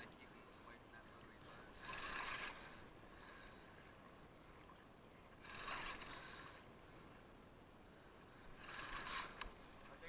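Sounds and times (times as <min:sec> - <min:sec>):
faint outdoor background hiss: 0:00.0 - 0:10.0.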